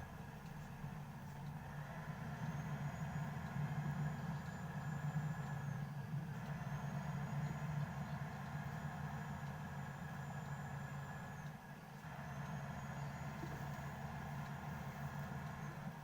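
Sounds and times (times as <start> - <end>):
road and tyre noise: 0.0 - 16.0.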